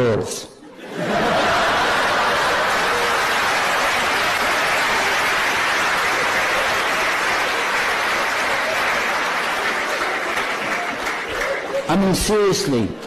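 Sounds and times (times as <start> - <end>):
audience applauding: 1.0 - 12.5.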